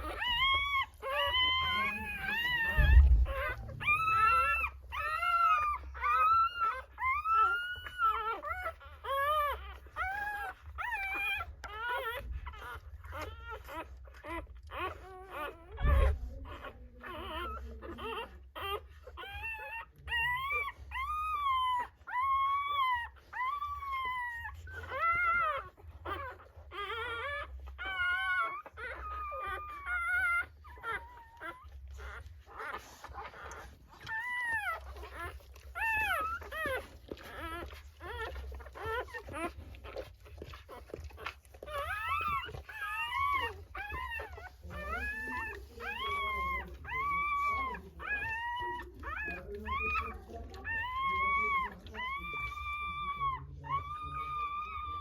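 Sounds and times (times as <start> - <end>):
low steady hum: 0.0 - 55.0
puppies whining: 0.0 - 55.0.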